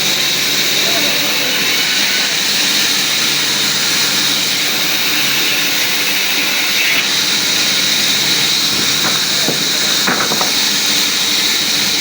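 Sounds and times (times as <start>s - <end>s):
woodworking machine running: 0.0s - 12.0s.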